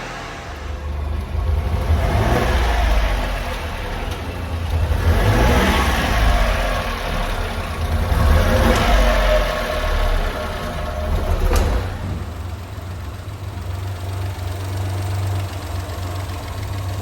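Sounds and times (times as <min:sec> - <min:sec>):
small truck engine revving: 0:00.0 - 0:13.9.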